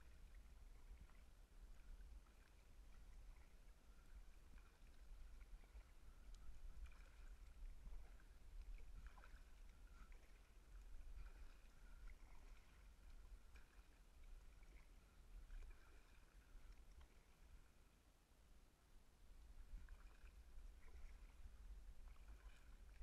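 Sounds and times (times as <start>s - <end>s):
kayak paddle strokes in water: 0.0s - 18.1s, 19.3s - 23.0s.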